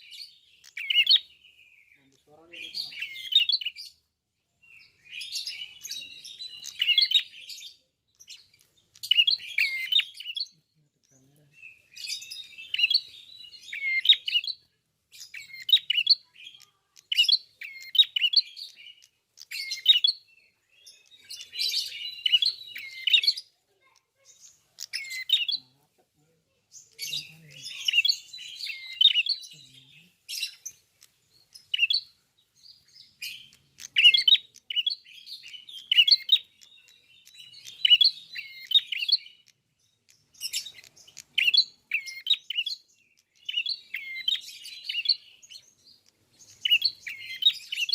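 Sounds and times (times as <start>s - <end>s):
bird singing chirped phrases: 0.0s - 47.9s.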